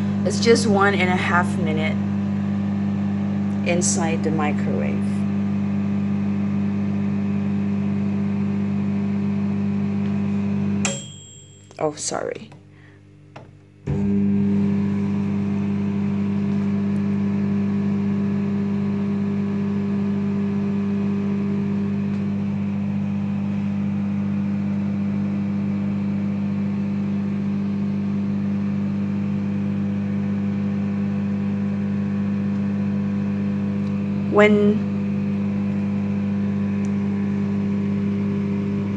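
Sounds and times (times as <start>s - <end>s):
microwave oven humming: 0.0s - 38.9s.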